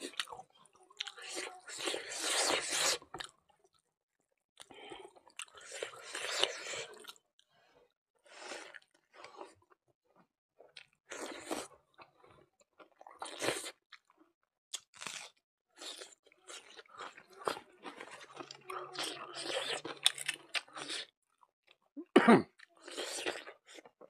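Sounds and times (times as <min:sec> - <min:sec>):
chewing and crunching food: 0:00.0 - 0:21.9, 0:22.5 - 0:24.0.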